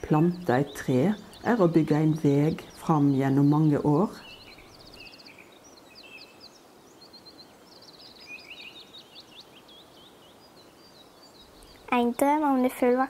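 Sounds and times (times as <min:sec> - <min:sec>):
soft steady hiss: 0:00.0 - 0:13.0
songbirds chirping and trilling: 0:00.0 - 0:13.0.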